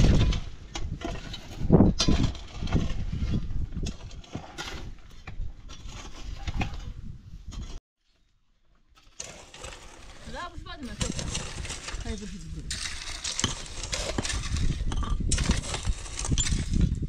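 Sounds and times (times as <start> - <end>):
shovels and hoes scraping soil: 0.0 - 17.0.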